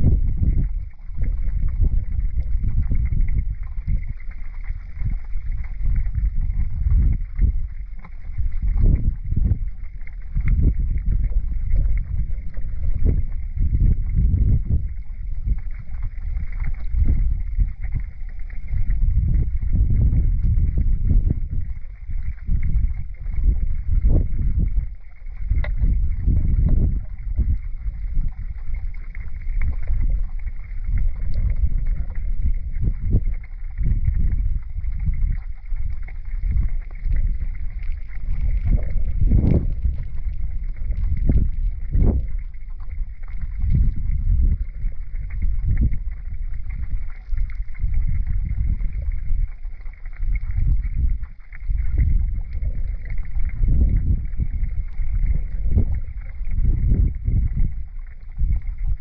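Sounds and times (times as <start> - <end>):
river water rushing underwater: 0.0 - 59.0.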